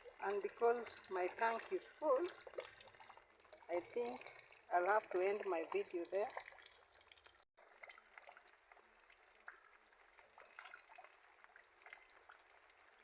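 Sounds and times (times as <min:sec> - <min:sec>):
faint rain falling: 0:00.0 - 0:13.0
water drips and splashes: 0:00.0 - 0:13.0.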